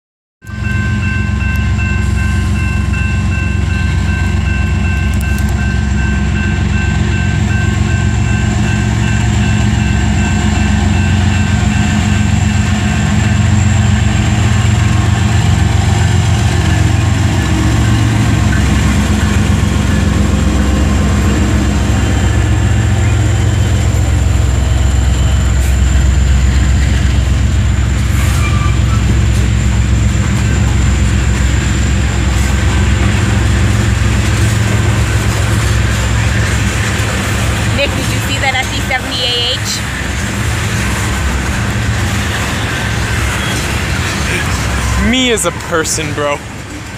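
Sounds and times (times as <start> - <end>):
diesel locomotive engines rumbling: 0.4 - 46.9
steady high tones: 0.5 - 46.8
freight cars rolling on rails: 0.5 - 46.9.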